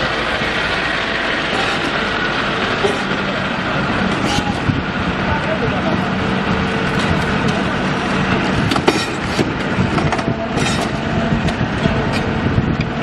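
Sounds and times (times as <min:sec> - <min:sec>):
metal clanking and screeching: 0:00.0 - 0:05.2, 0:05.9 - 0:13.0
heavy machine engine running: 0:00.0 - 0:13.0.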